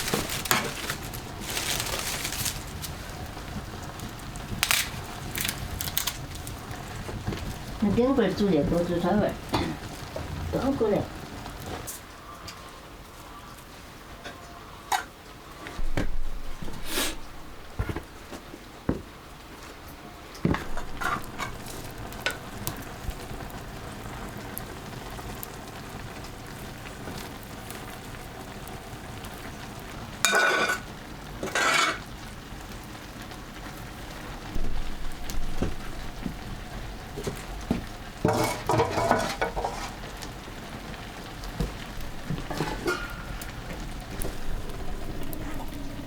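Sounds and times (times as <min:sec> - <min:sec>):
food sizzling in a pan: 0:00.0 - 0:46.0.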